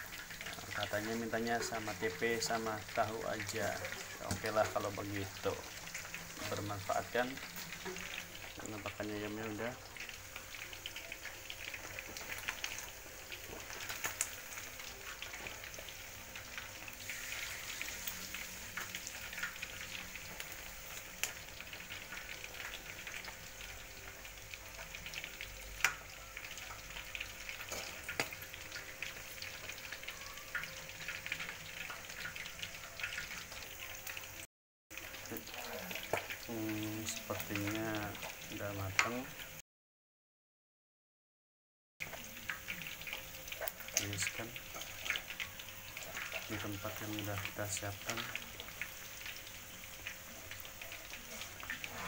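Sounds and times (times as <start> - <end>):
chicken deep-frying in oil: 0.0 - 39.6, 42.0 - 52.0.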